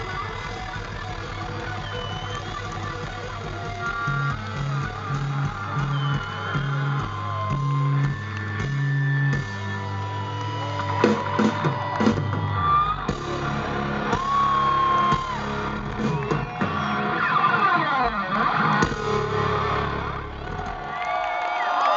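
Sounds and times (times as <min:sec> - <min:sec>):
live rock band playing: 0:00.0 - 0:20.8
crowd whooping and yelling: 0:00.0 - 0:21.9.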